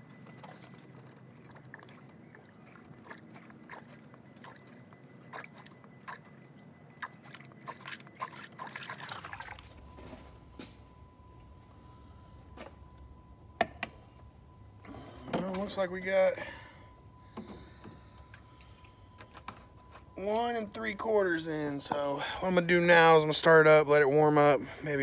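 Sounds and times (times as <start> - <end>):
coolant trickling through a funnel: 0.0 - 25.0.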